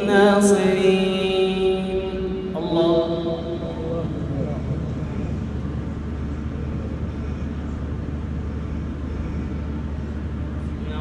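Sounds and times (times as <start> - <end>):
deep room hum: 0.0 - 11.0.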